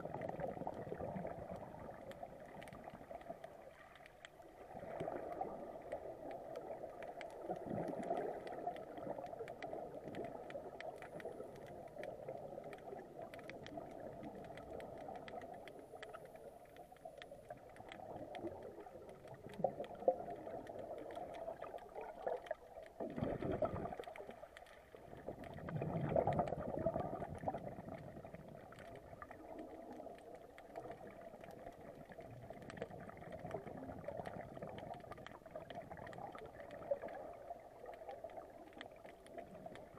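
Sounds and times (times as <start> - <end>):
faint clicks: 0.0 - 39.9
muffled underwater rush: 0.0 - 39.9
scuba exhaust bubbling: 0.0 - 39.9.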